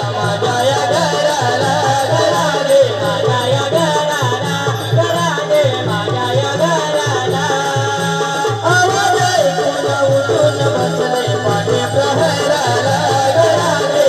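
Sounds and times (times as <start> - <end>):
drum beating steady rhythm: 0.0 - 14.0.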